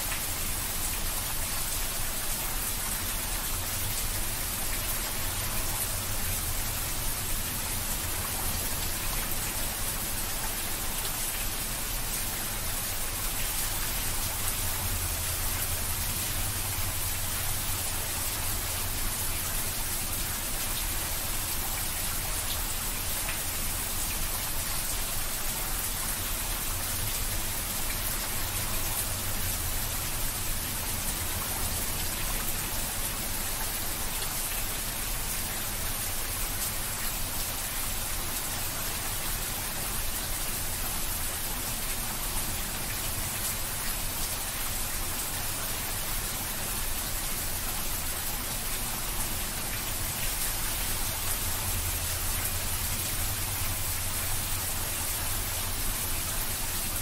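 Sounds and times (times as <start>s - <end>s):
rain on wet stone paving: 0.0s - 57.0s.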